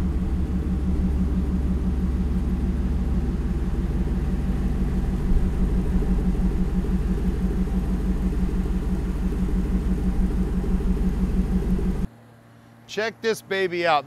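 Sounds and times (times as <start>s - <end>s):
truck engine idling: 0.0s - 12.1s.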